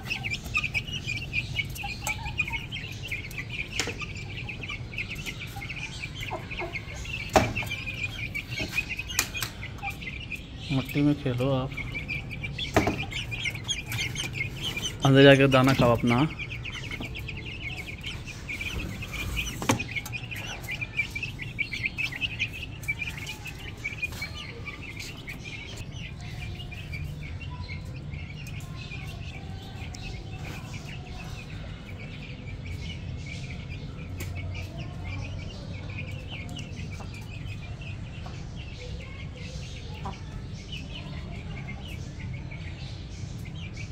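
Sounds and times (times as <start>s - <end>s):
chickens clucking: 0.0s - 43.9s
small birds chirping: 0.0s - 43.9s.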